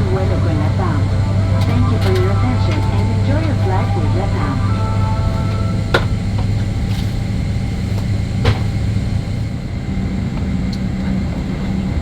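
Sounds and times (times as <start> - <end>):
aircraft cabin hum: 0.0 - 12.0.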